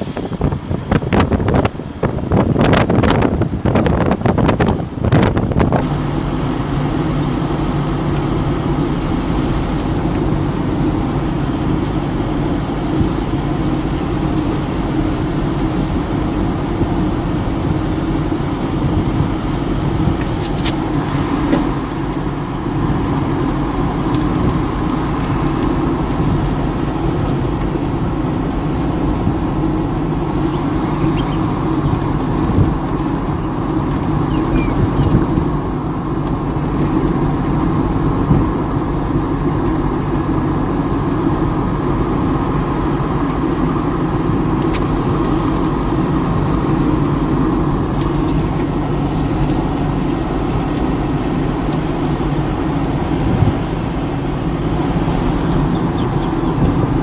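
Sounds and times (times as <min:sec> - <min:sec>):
tyre and wind noise: 0:00.0 - 0:57.0
vehicle engine hum: 0:00.0 - 0:57.0.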